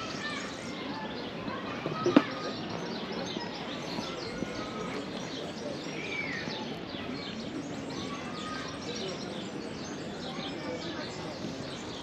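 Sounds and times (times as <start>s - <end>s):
background noise: 0.0s - 12.0s
small birds chirping: 0.0s - 12.0s.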